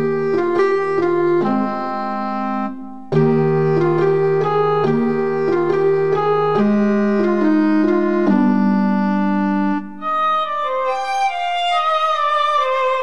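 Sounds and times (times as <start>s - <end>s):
electronic keyboard music: 0.0s - 13.0s.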